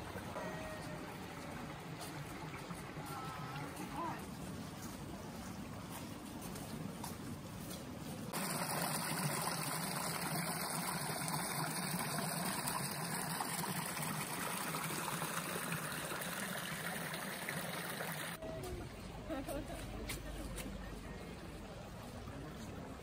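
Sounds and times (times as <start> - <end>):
running water: 0.0 - 6.9, 8.3 - 23.0.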